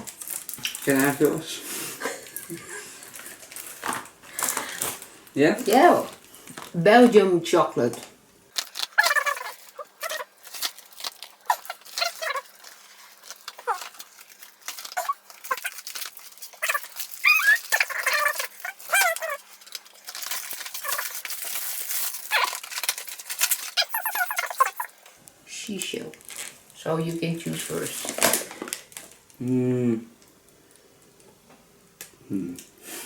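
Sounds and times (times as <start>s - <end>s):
plastic wrapping crinkling: 0.0s - 7.1s, 7.9s - 29.4s.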